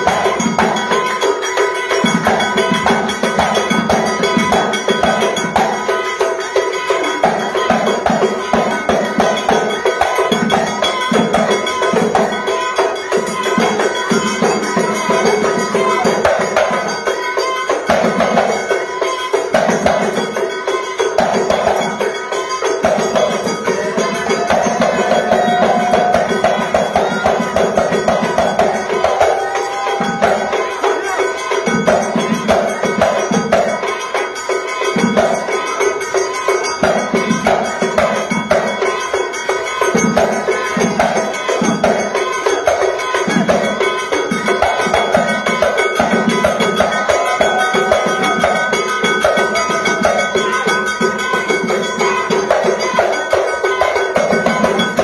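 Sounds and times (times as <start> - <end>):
hand drum: 0.0 - 55.0
metal hand percussion: 0.0 - 55.0.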